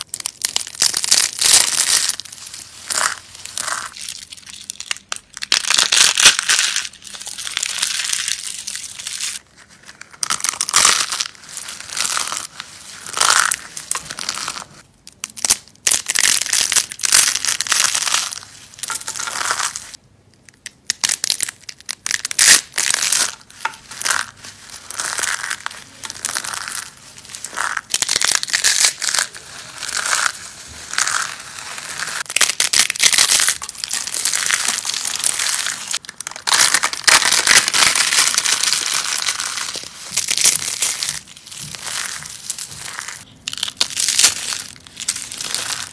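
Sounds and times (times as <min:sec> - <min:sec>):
dry soap crackling crunches: 0:00.0 - 0:45.9.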